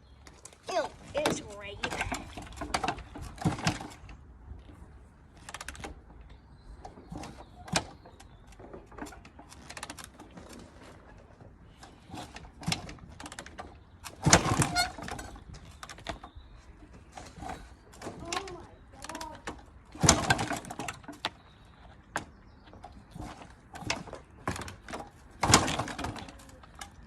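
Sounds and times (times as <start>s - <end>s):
clicks and knocks of motorbike parts: 1.3s - 11.0s, 11.8s - 16.4s, 17.0s - 27.0s.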